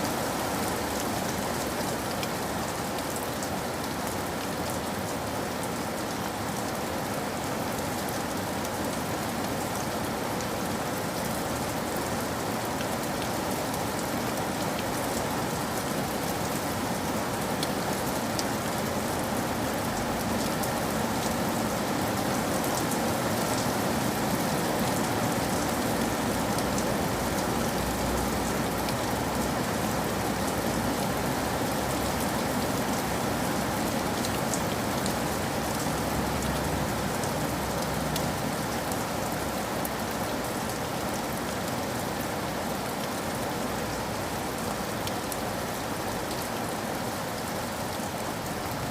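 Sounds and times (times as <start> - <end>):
rain pattering on a surface: 0.0 - 48.9.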